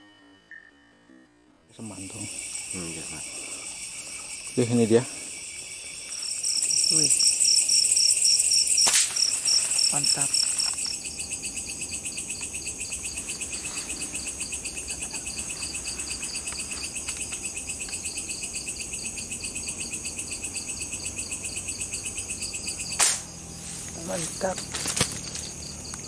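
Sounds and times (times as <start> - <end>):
insects chirping: 1.7 - 26.0.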